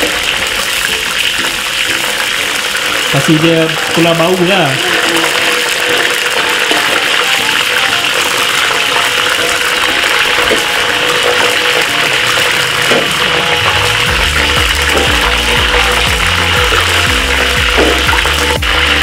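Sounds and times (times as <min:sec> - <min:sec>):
faint background music: 0:00.0 - 0:19.0
oil sizzling in a wok: 0:00.0 - 0:19.0.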